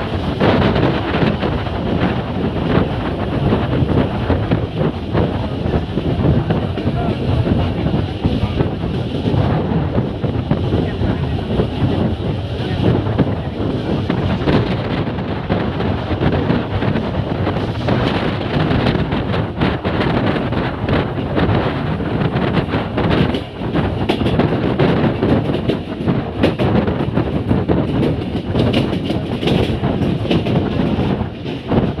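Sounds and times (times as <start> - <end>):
train wheels clattering on rails: 0.0 - 32.0.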